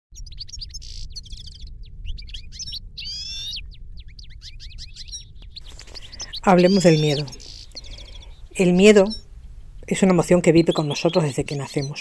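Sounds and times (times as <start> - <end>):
small songbirds chirping: 0.1 - 12.0
bird warbling trill: 0.2 - 12.0
faint low rumble: 0.2 - 12.0.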